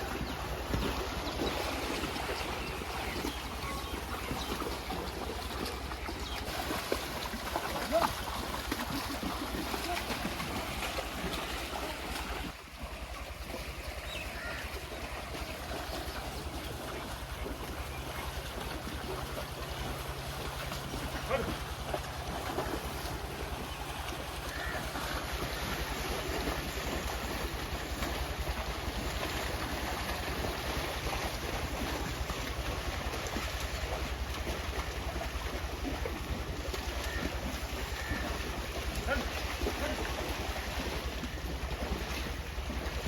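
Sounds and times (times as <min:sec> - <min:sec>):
water sloshing and splashing: 0:00.0 - 0:43.0.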